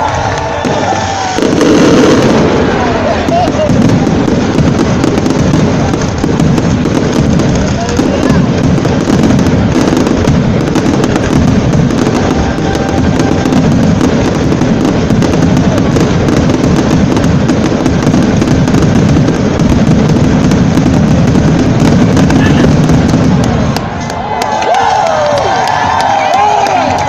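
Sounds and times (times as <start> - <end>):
fireworks bursting and crackling: 0.0 - 27.0.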